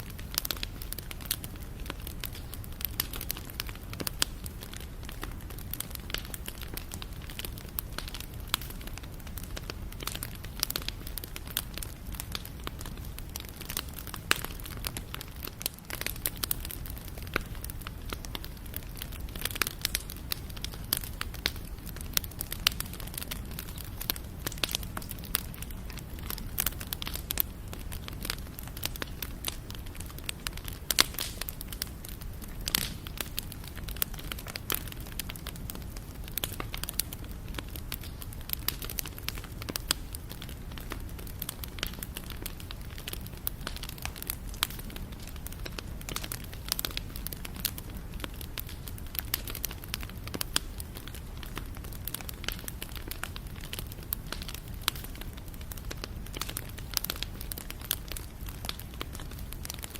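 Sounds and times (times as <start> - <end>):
low rumble of burning: 0.0 - 59.9
wood fire crackling: 0.0 - 59.9.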